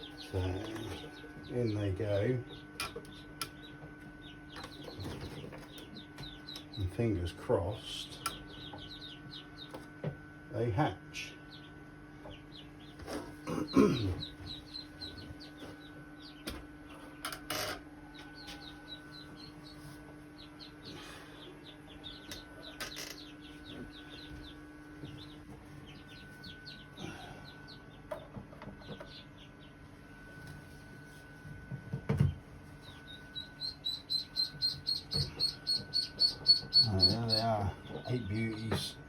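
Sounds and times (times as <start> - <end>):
ducklings peeping: 0.0 - 10.0, 10.6 - 39.0
steady low hum: 0.0 - 39.0.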